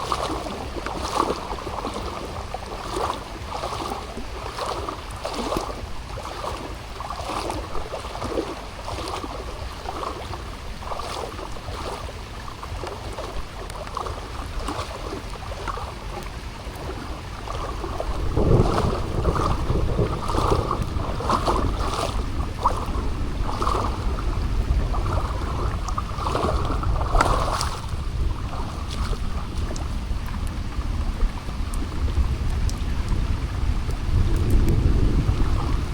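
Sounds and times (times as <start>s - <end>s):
rain falling: 0.0s - 11.2s, 12.4s - 35.9s
water patters and splashes: 0.0s - 35.9s
wind buffeting microphone: 0.0s - 35.9s.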